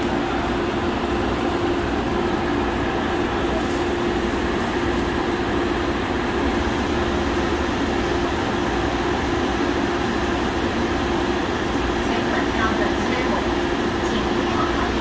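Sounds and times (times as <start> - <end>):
train running with rumble: 0.0 - 15.0.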